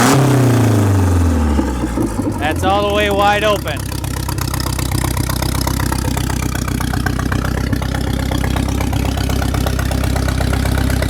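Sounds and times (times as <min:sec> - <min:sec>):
boat engine at full throttle: 0:00.0 - 0:11.0.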